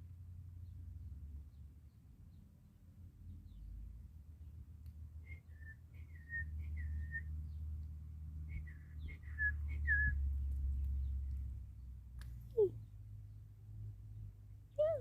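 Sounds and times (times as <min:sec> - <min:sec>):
steady low rumble: 0:00.0 - 0:14.8.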